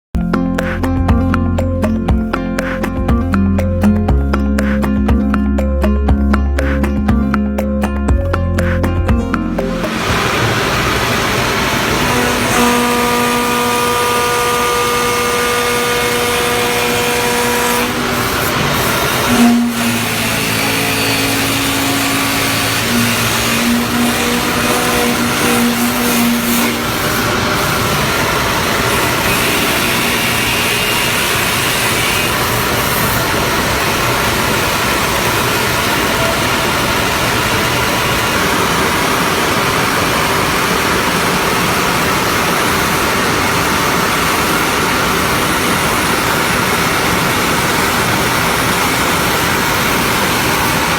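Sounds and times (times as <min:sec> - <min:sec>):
lathe motor whine with cutting: 0:09.7 - 0:50.9.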